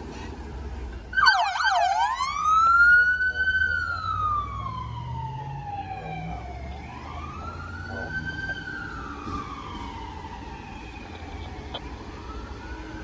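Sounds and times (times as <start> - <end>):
siren wailing: 1.1 - 13.0.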